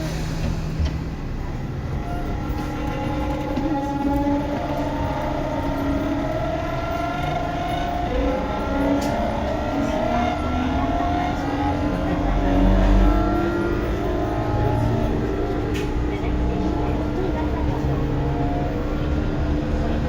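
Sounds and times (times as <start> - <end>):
traction motor whine: 0.0 - 20.0
wheels rumbling on rails: 0.0 - 20.0.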